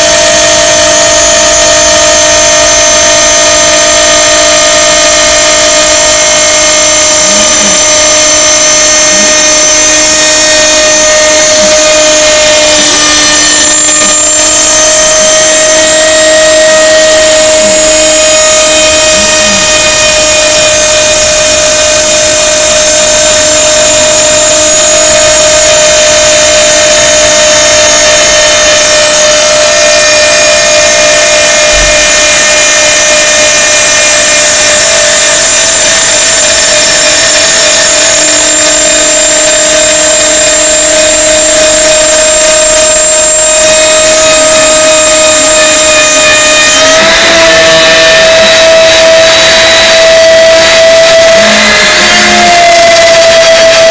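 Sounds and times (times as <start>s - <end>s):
milling machine spindle whine: 0.0s - 53.9s.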